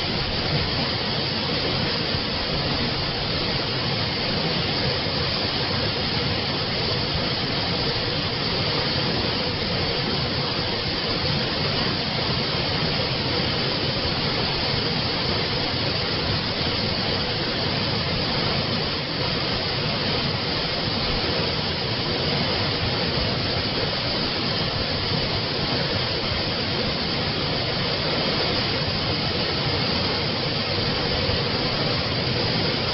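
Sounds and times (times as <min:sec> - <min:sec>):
spring water flowing: 0:00.0 - 0:32.9.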